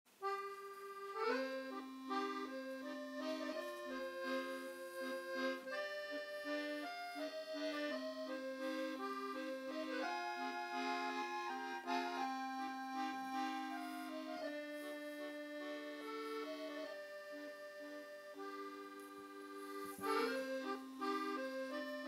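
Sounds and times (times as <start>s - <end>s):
lively accordion tune: 0.1s - 22.0s.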